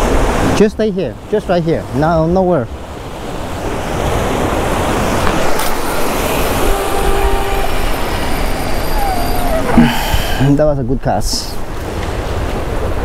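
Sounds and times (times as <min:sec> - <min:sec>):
surf washing against rocks: 0:00.0 - 0:10.6
wind buffeting microphone: 0:02.2 - 0:13.0.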